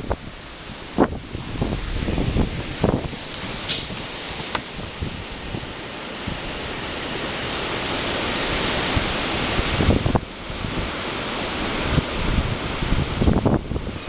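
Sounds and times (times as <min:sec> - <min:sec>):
wind buffeting microphone: 0:00.0 - 0:14.0
wind gusting hard: 0:00.0 - 0:14.0.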